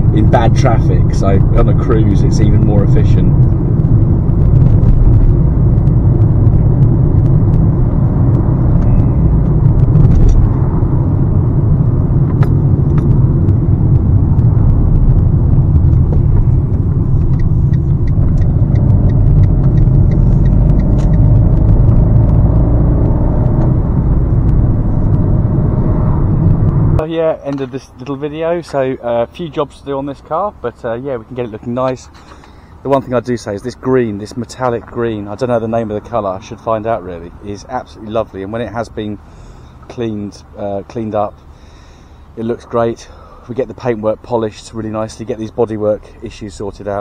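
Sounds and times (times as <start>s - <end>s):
car engine rumble: 0.0s - 47.0s
road noise inside car: 0.0s - 47.0s.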